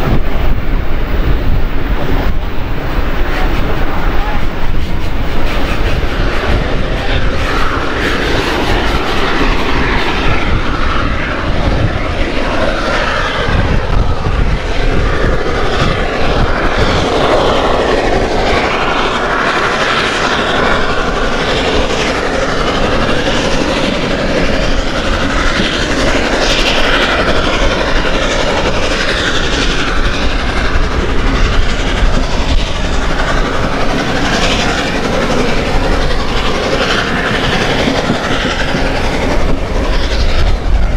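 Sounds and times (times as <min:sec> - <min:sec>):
steam locomotive working: 0:00.0 - 0:40.9
wheels on rails: 0:00.0 - 0:40.9.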